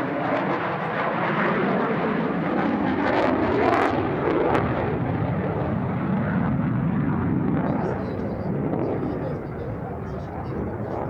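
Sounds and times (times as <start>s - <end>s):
fighter jet engine roar: 0.0s - 11.0s.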